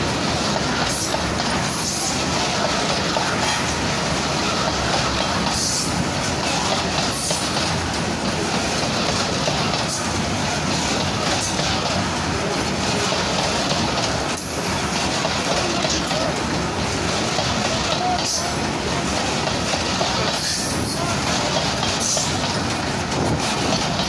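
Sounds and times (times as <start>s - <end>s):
freight wagons rumbling on rails: 0.0s - 24.0s
wheels clacking over rail joints: 0.0s - 24.0s.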